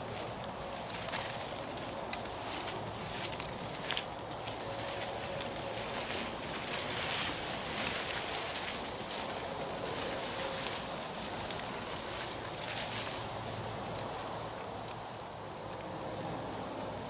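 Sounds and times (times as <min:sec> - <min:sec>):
dry twigs snapping: 0:00.0 - 0:15.0
branches dragged through undergrowth: 0:00.0 - 0:17.0.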